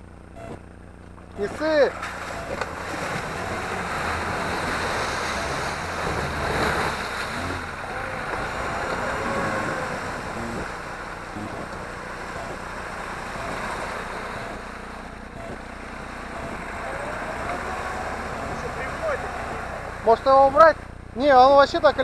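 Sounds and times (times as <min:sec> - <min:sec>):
off-road vehicle engine under load: 0:00.0 - 0:22.0
mud splashing and sloshing: 0:01.4 - 0:20.0.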